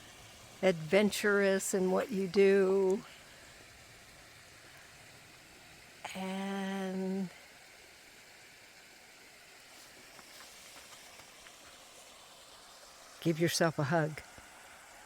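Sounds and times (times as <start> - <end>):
small waterfall rushing: 0.0 - 15.0.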